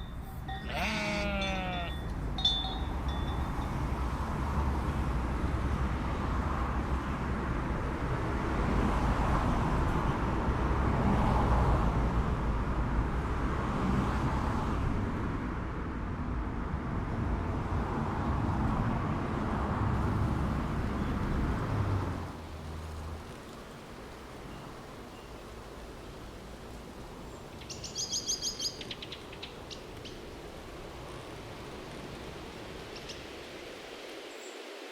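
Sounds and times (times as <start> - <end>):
road traffic rumble: 0.0 - 34.3
vehicles passing: 0.0 - 34.3.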